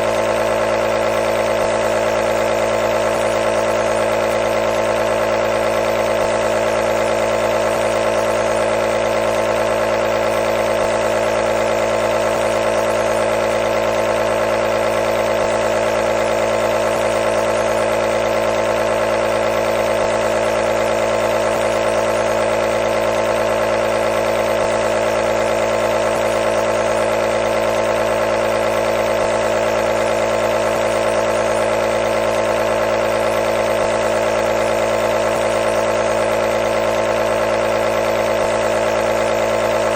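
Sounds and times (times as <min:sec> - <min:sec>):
nebulizer compressor buzzing: 0:00.0 - 0:39.9.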